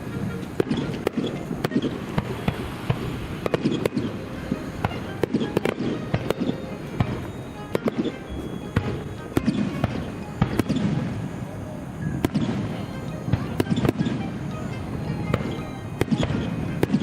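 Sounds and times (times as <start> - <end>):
fireworks bangs and cracks: 0.0 - 17.0
steady background din: 0.0 - 17.0.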